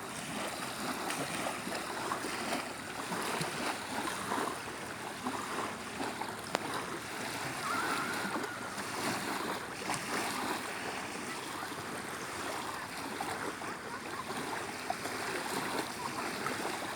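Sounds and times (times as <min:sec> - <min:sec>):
sea waves washing on shore: 0:00.0 - 0:16.9.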